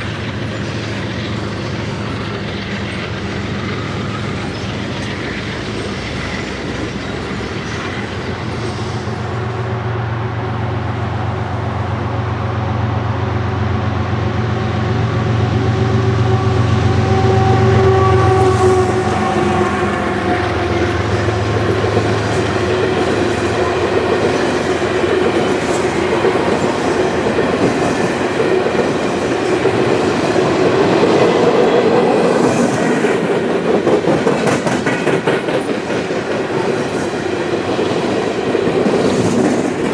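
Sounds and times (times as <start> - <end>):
train wheels clattering on rails: 0.0 - 9.4, 16.8 - 39.9
diesel locomotive engine: 0.0 - 39.9.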